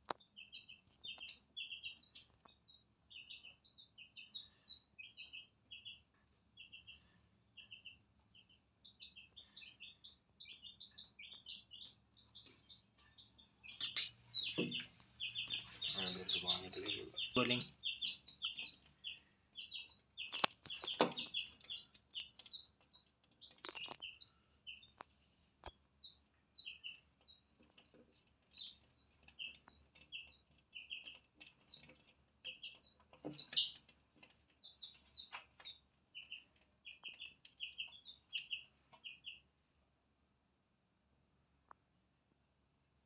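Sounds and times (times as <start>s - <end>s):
chicks peeping: 0.0s - 39.5s.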